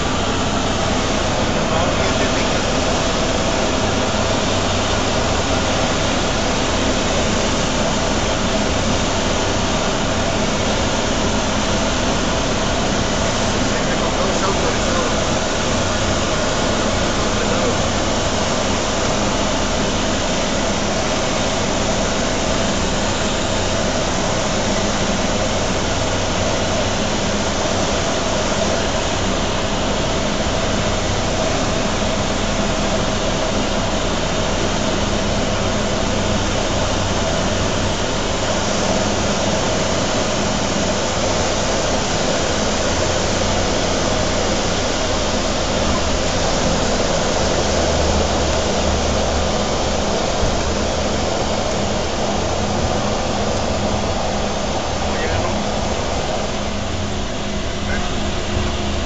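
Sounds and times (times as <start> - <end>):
airflow noise: 0.0 - 59.0
deep rumble of plane on runway: 0.0 - 59.0
turboprop engine drone in cabin: 0.0 - 59.0.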